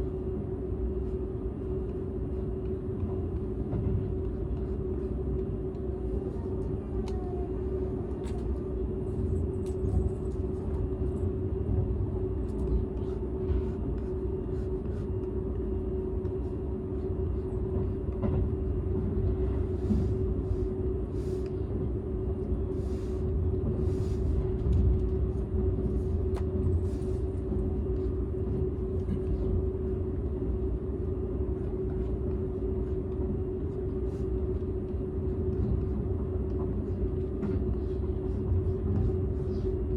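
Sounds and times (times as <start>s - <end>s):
train cabin rumble: 0.1s - 39.9s.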